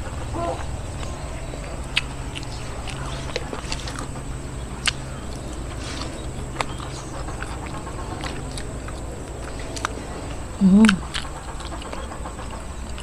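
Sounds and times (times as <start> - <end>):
mouth clicks: 0.0 - 13.0
steady low hum: 0.0 - 13.0
person chewing food: 0.6 - 13.0.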